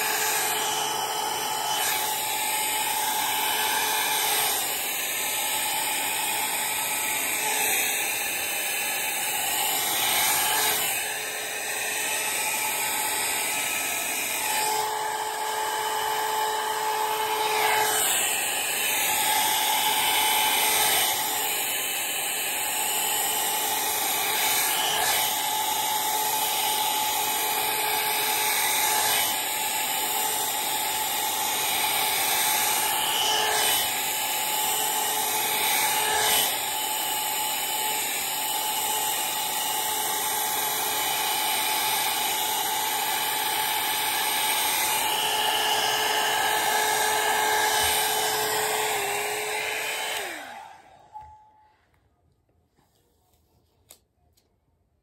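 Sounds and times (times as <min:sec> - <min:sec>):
hair dryer blowing: 0:00.0 - 0:51.8.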